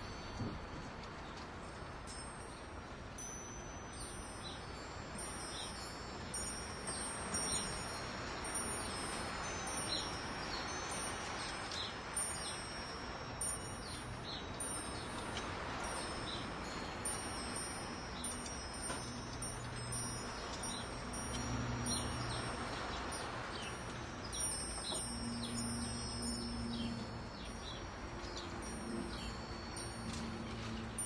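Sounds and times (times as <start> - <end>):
wind chimes ringing: 0.0 - 31.0.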